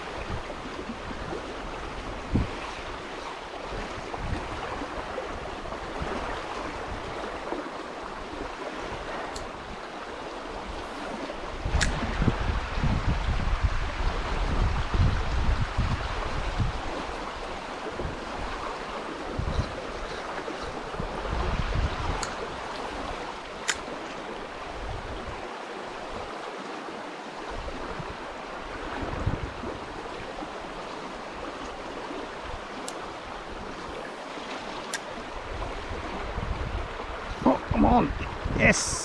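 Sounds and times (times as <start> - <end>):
wind buffeting microphone: 0.0 - 26.4, 27.5 - 39.0
river water rushing: 0.0 - 39.0.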